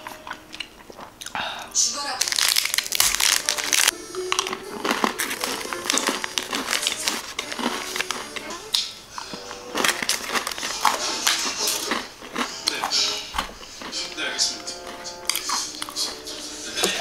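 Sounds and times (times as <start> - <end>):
crunchy food being chewed: 0.0 - 1.4, 2.2 - 17.0
tv music and voices: 0.0 - 17.0.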